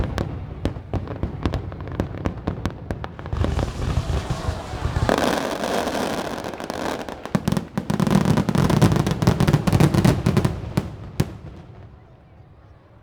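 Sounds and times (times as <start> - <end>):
fireworks crackling and banging: 0.0 - 12.2.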